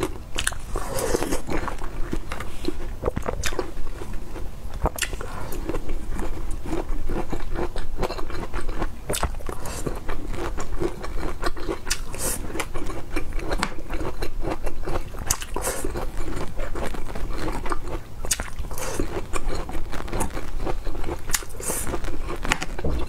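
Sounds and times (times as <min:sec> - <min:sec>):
crunching and chewing broccoli: 0:00.0 - 0:23.0.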